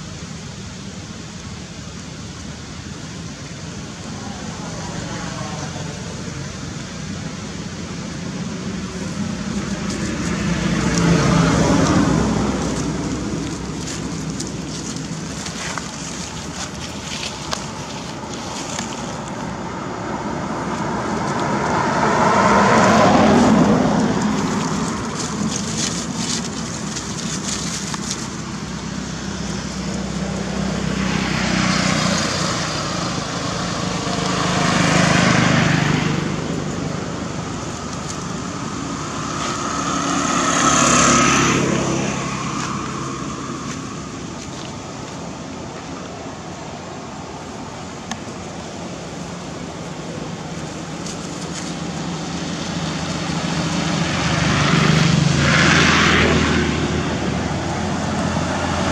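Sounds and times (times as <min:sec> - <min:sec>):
vehicles passing: 0:00.0 - 0:58.9.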